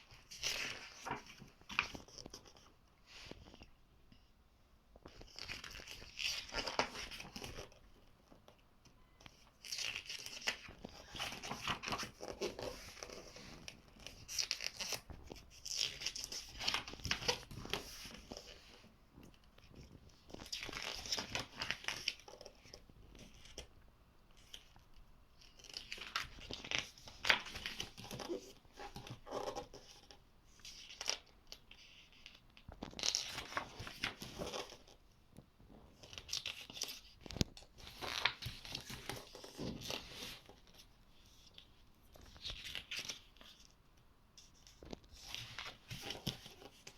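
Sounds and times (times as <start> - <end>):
book pages being turned: 0.0 - 3.8, 5.0 - 8.6, 9.2 - 23.7, 24.4 - 35.0, 35.9 - 43.8, 44.4 - 46.9.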